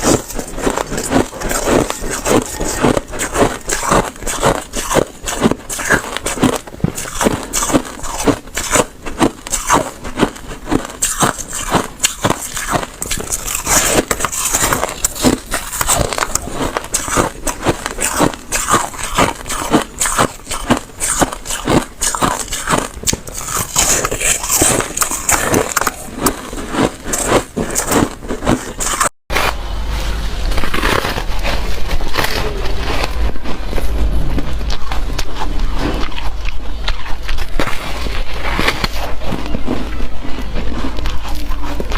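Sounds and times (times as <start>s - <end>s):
chewing slushy ice: 0.0s - 29.1s, 30.6s - 41.9s.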